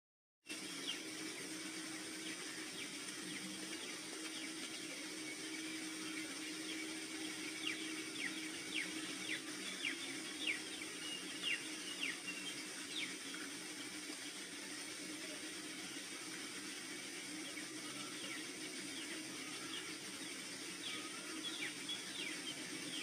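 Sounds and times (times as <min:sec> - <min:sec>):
faint low hum: 0:00.5 - 0:23.0
outdoor hiss: 0:00.5 - 0:23.0
bird chirping: 0:00.6 - 0:14.2, 0:17.3 - 0:23.0.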